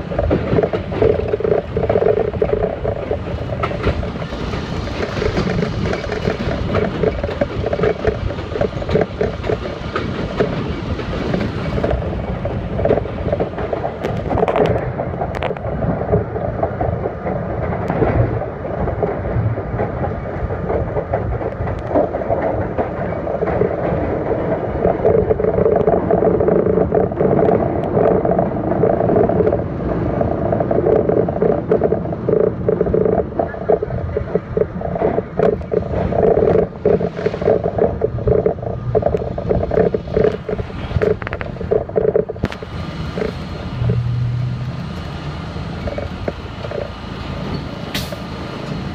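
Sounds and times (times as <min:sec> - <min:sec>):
rail clicks and clacks: 0:00.0 - 0:48.9
train wheel and motor noise: 0:00.0 - 0:48.9.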